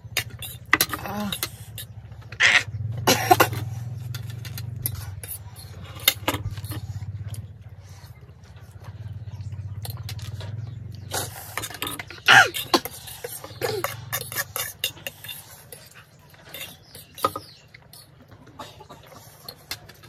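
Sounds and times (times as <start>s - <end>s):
metal forks scraping on plates: 0.1s - 2.6s, 3.2s - 7.2s, 9.8s - 20.0s.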